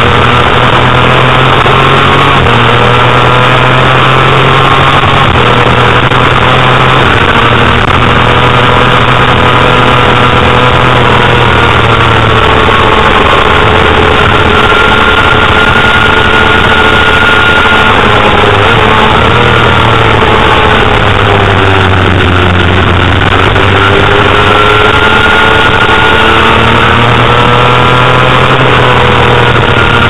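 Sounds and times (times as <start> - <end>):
loud rushing wind noise: 0.0 - 30.0
motorcycle engine at high revs: 0.0 - 30.0.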